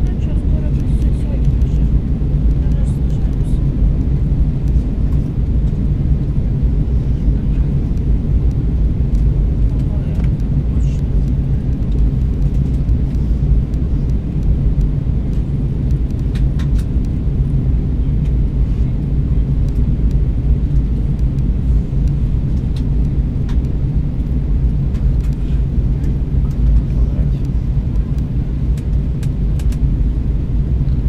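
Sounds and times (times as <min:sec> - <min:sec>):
airplane cabin engine rumble: 0:00.0 - 0:31.0.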